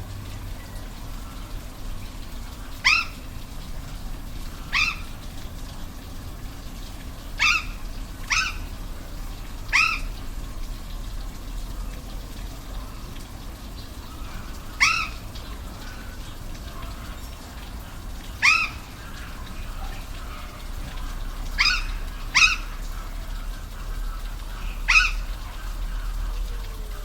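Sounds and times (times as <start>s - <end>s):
rushing falling water: 0.0s - 27.0s.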